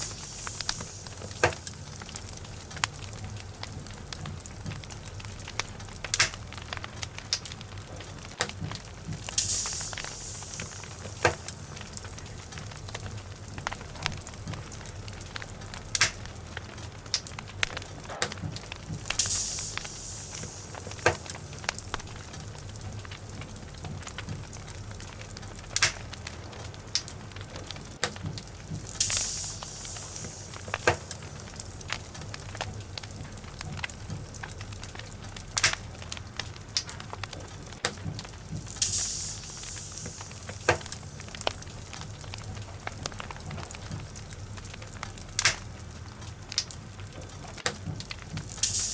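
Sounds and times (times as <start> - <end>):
sharp pops: 0.0 - 46.8, 47.6 - 48.9
fire hissing: 0.0 - 48.9
logs crackling in fireplace: 0.0 - 48.9
low steady rumble: 0.0 - 48.9.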